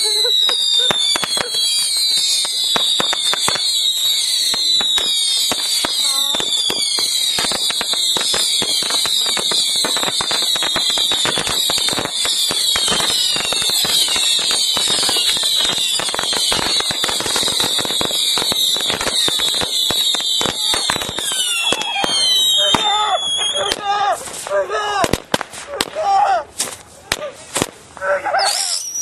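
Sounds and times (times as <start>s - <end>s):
rockets whistling: 0.0s - 25.8s, 28.2s - 29.0s.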